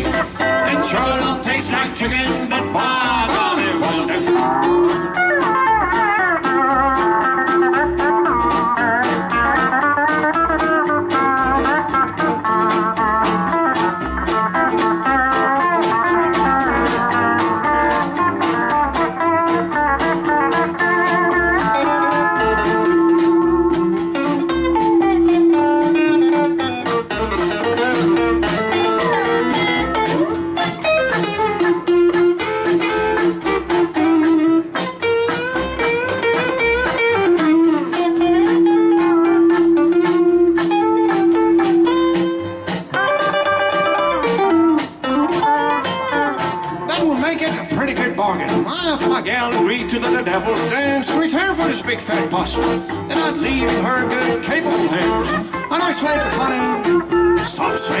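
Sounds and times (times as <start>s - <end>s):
electric lead guitar: 0.0s - 58.0s
rhythm guitar: 0.0s - 58.0s
steel guitar sliding notes: 0.0s - 58.0s
upright bass beat: 0.0s - 58.0s.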